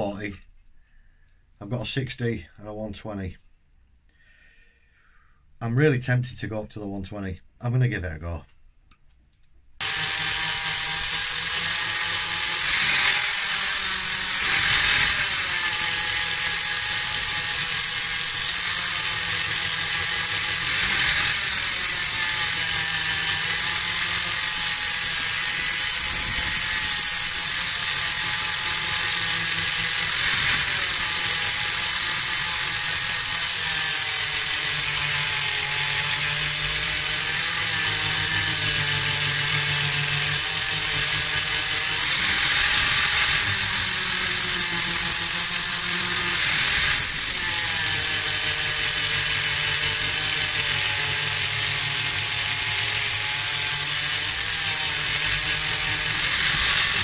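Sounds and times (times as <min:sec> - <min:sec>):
angle grinder grinding metal: 0:09.8 - 0:57.0.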